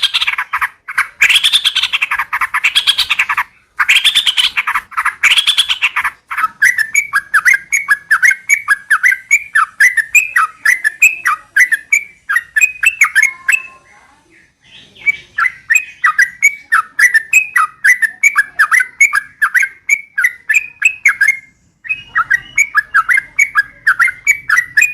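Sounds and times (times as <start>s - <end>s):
bird chirping notes: 0.0s - 24.9s
bird harsh chattering: 0.0s - 24.9s.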